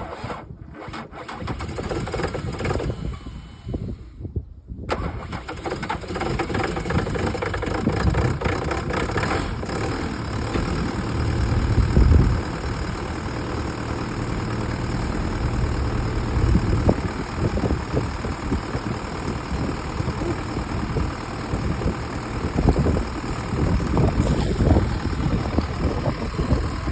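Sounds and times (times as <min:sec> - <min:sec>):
diesel engine clattering: 0:00.1 - 0:04.0, 0:04.9 - 0:26.9.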